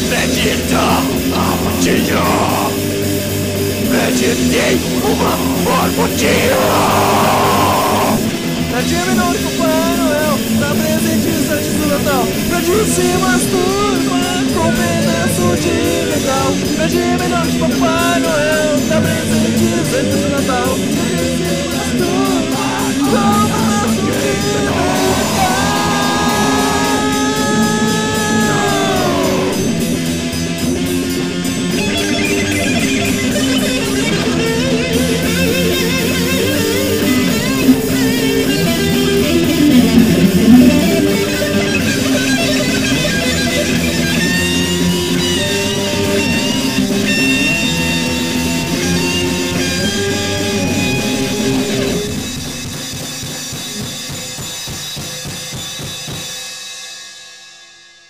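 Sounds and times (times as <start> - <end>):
punk rock guitars: 0.0 - 56.4.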